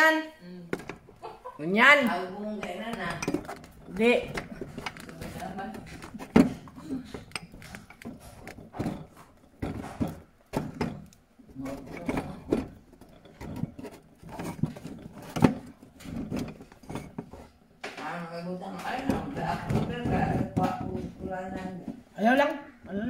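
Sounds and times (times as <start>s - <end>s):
things knocking on a table: 0.7s - 1.2s, 2.0s - 18.1s, 18.8s - 22.1s.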